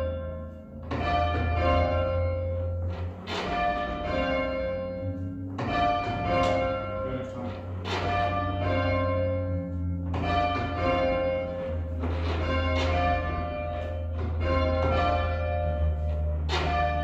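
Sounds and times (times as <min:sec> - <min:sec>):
tower bells ringing: 0:00.0 - 0:17.0.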